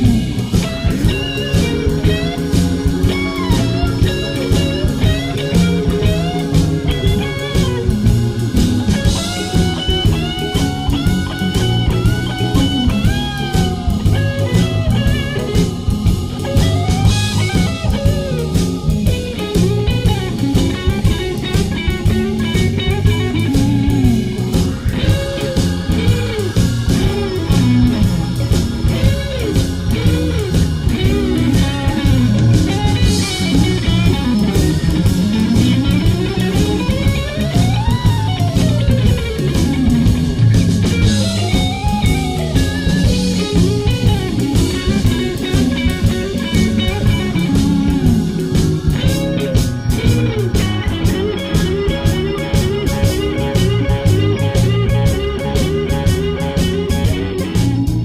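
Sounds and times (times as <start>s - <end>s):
blues guitar music: 0.0s - 58.0s.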